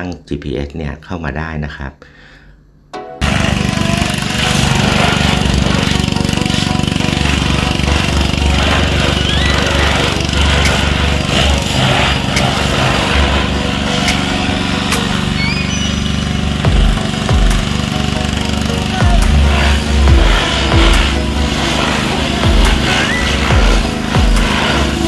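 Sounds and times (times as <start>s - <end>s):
small engine buzzing: 3.2s - 25.0s.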